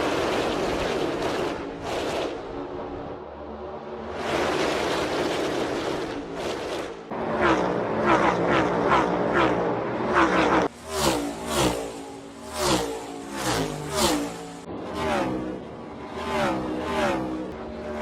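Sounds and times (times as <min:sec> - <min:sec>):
race cars passing at speed: 0:00.0 - 0:18.0.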